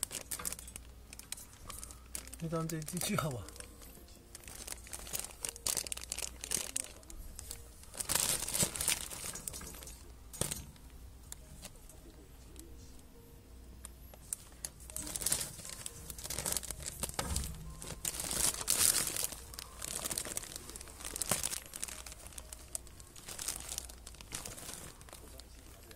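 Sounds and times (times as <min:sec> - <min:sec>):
plastic bags crinkling: 0:00.0 - 0:12.7, 0:14.1 - 0:25.9.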